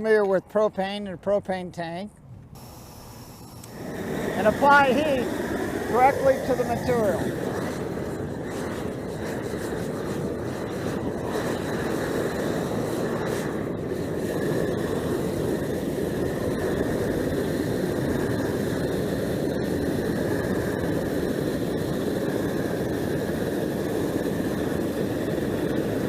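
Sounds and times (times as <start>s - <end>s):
hand torch burning: 0.0s - 26.0s.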